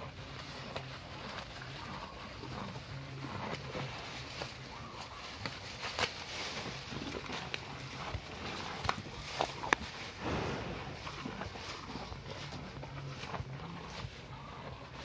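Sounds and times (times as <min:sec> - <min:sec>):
cows chewing grass: 0:00.0 - 0:15.0.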